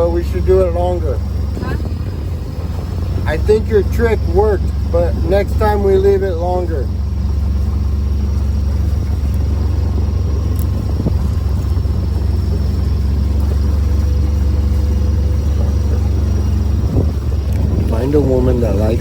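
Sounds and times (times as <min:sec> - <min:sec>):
boat engine low drone: 0:00.0 - 0:19.0
faint steady hum: 0:00.0 - 0:19.0.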